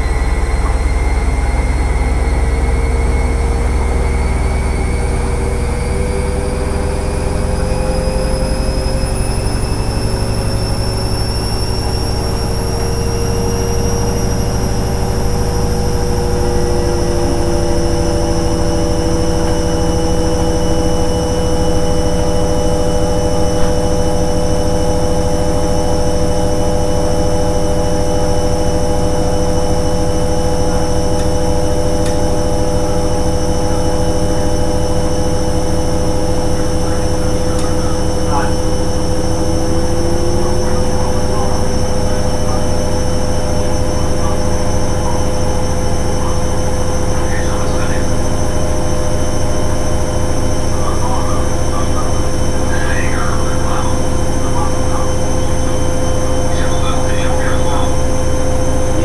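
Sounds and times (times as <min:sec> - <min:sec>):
washing machine motor whining: 0:00.0 - 0:59.0.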